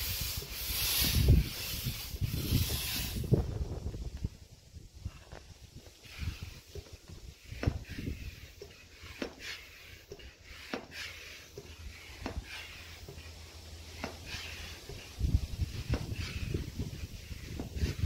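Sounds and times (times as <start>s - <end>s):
hand pump air hiss: 0.0s - 3.5s, 5.8s - 18.0s.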